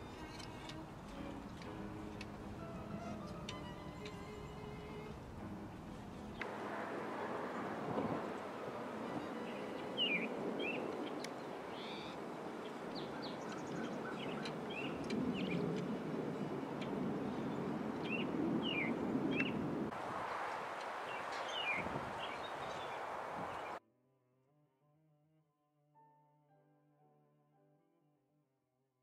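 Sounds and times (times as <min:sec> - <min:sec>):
birds chirping: 0:00.0 - 0:23.8
wind blowing in gusts: 0:00.0 - 0:23.8.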